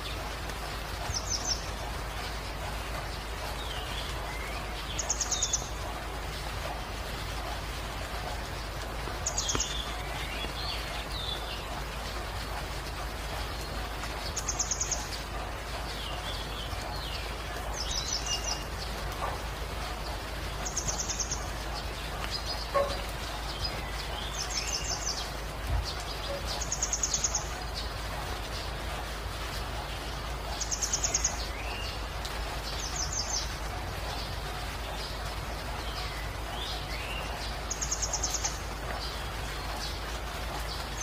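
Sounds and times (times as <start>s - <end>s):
rain hiss: 0.0s - 41.0s.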